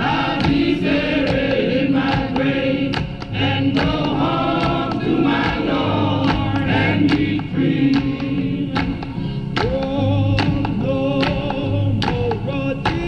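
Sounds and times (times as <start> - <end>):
crowd singing with male leader: 0.0 - 13.0
sharp rhythmic hits: 0.0 - 13.0.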